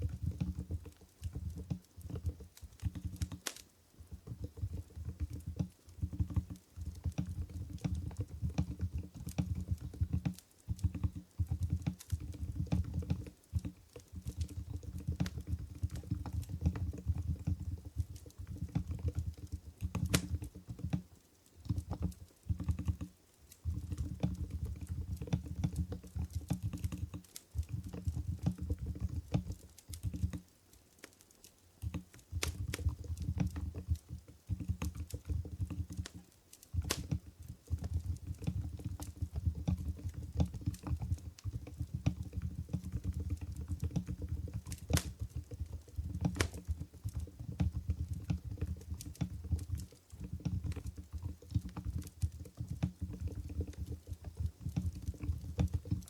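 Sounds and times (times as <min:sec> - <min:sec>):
soft keyboard typing: 0:00.0 - 0:56.0.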